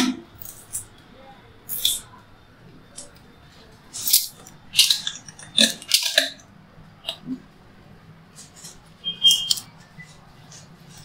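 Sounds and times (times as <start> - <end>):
faint machine hum: 0.0 - 11.0.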